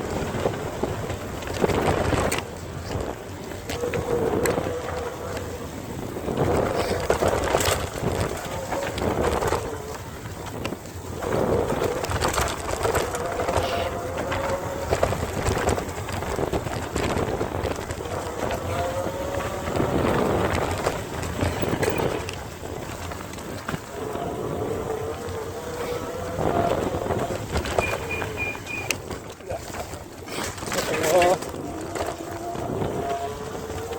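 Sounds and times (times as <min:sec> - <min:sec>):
tyre and wind rumble: 0:00.0 - 0:33.9.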